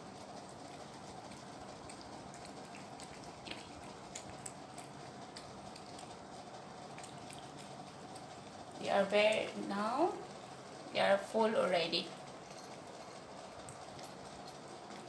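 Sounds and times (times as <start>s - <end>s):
cats licking and chewing: 0.0s - 15.0s
low room hum: 0.0s - 15.0s.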